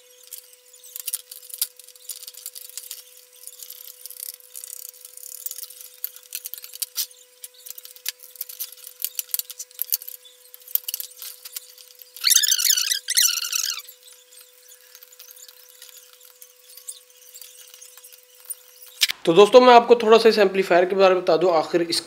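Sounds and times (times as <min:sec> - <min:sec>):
clicks and rattles of components: 0:00.1 - 0:19.2.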